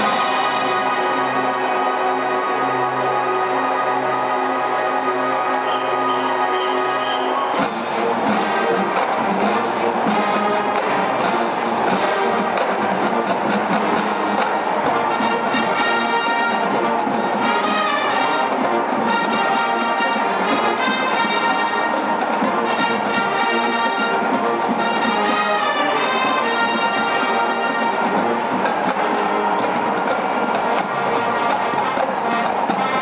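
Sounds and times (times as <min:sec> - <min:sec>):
brass chords: 0:00.0 - 0:33.0
drumline: 0:00.0 - 0:33.0
marching band playing: 0:00.0 - 0:33.0.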